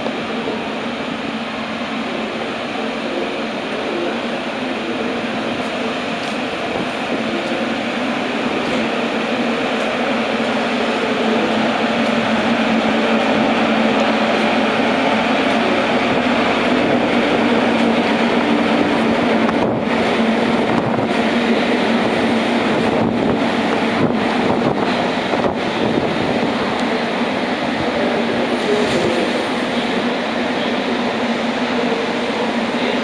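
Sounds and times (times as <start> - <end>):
electric train running: 0.0 - 33.0.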